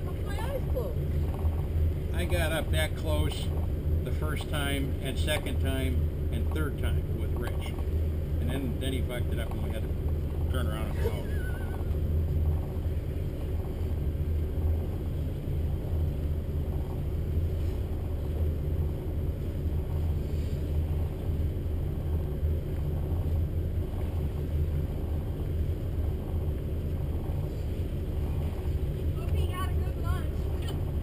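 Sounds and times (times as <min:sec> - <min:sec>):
boat engines idling: 0:00.0 - 0:31.0.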